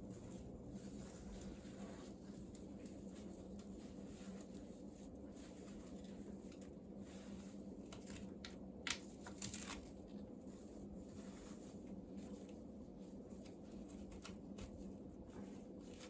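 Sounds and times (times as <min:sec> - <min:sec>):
cat scratching a twine pole: 0:00.0 - 0:16.0
steady low hum: 0:00.0 - 0:16.0.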